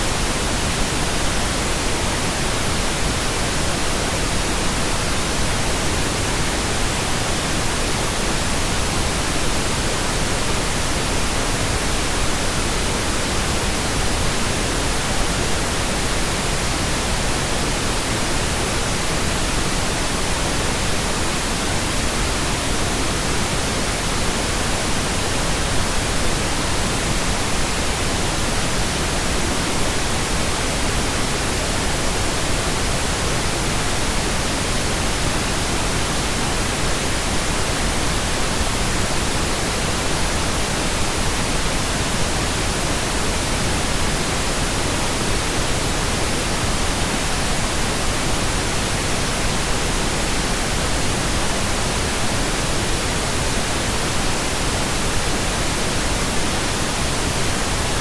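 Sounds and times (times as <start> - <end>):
steady pink noise hiss: 0.0 - 58.0.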